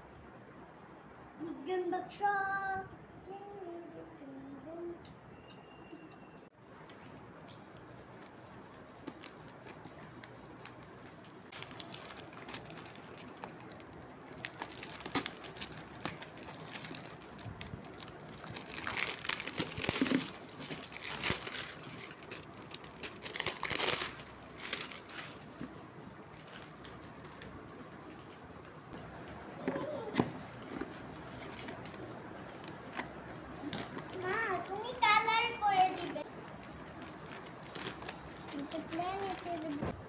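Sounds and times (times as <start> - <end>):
crinkling and rustling: 6.7 - 40.0.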